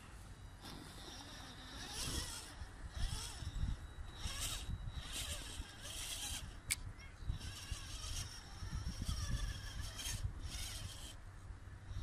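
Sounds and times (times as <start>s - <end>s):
electric motor and gears whining: 0.0s - 11.2s.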